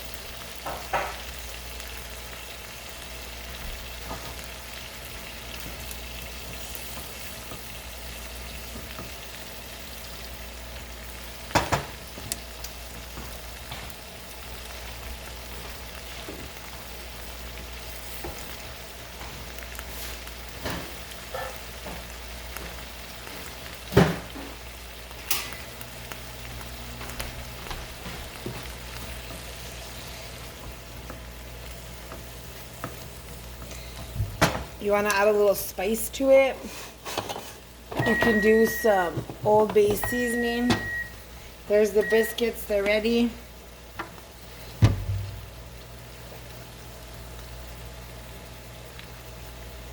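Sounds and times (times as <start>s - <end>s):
shrimp sizzling in a pan: 0.0s - 49.9s.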